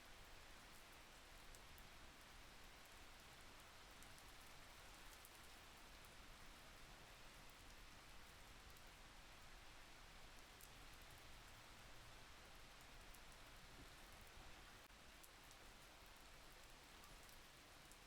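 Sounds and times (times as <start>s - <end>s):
faint steady rain: 0.0s - 18.0s.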